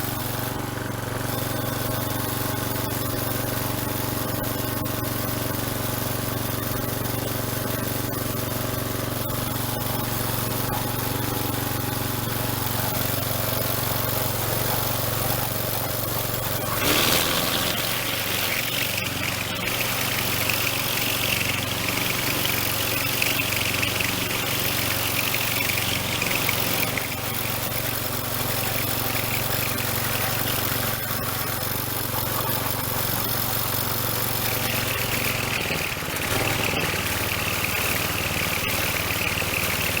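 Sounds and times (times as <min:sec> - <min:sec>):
string trimmer engine running: 0:00.0 - 0:40.0.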